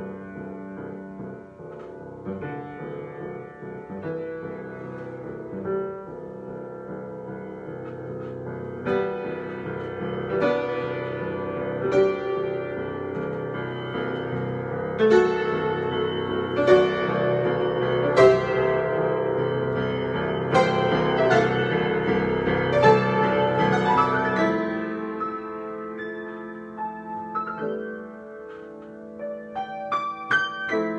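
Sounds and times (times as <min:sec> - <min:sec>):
solo piano: 0:00.0 - 0:30.9.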